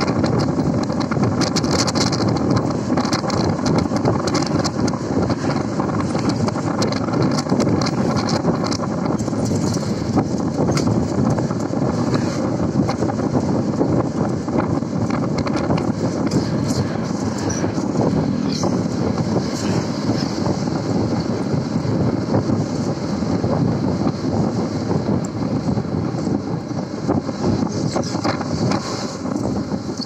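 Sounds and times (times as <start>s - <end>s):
engine and tyre rumble: 0.0s - 30.0s
wind buffeting the microphone: 0.0s - 30.0s.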